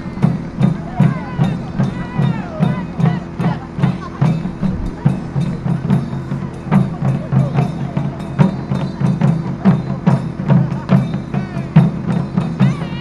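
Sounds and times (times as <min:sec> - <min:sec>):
taiko drums playing: 0:00.0 - 0:13.0.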